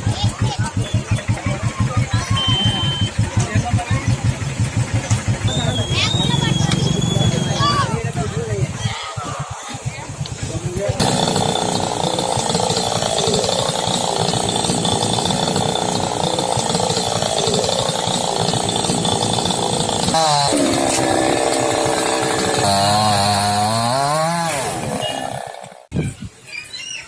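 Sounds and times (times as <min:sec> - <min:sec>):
crowd voices: 0:00.0 - 0:23.1
small petrol engine running hard: 0:00.0 - 0:25.9.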